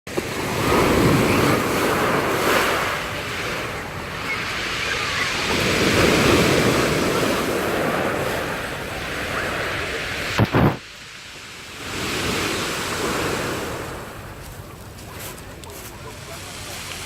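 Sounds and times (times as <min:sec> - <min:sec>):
waves breaking on pebble beach: 0:00.1 - 0:17.0.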